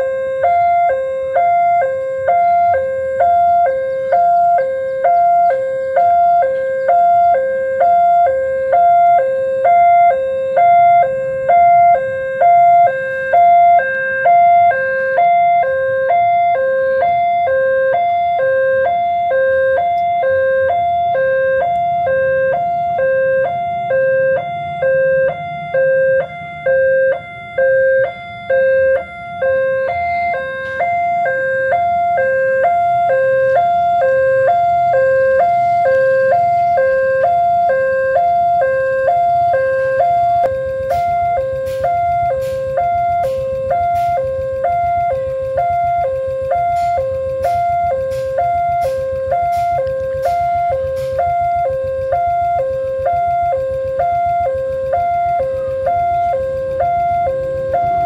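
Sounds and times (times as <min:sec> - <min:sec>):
level-crossing two-tone alarm: 0:00.0 - 0:58.0.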